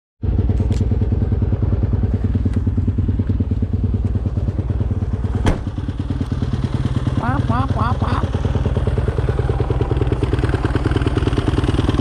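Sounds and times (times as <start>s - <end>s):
dirt bike engine idling: 0.2s - 12.0s.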